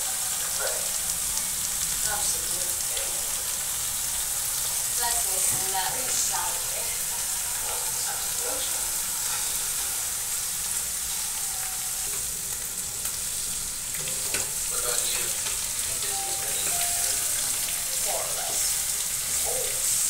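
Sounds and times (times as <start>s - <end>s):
eggplant sizzling in pan: 0.0s - 20.0s.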